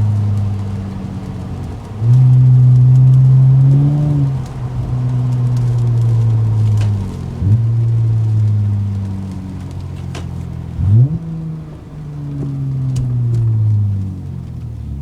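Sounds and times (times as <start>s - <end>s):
deep exhaust drone: 0.0s - 15.0s.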